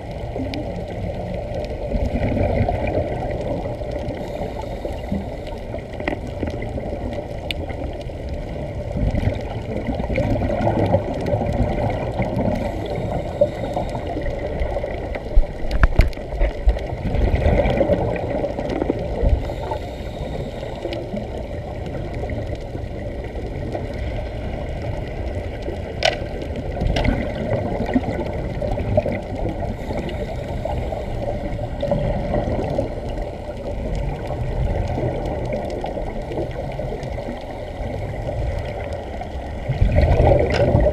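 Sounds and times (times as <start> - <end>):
underwater air bubbling: 0.0 - 40.9.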